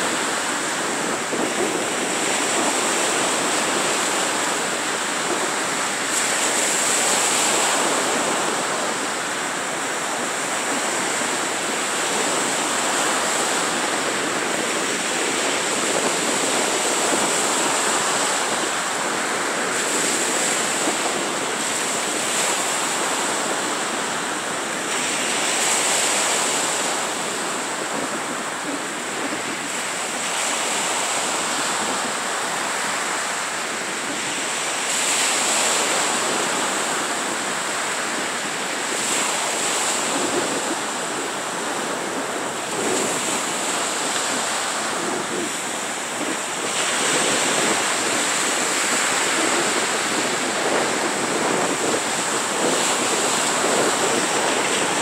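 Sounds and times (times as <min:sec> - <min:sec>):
small surf breaking on beach: 0:00.0 - 0:55.0.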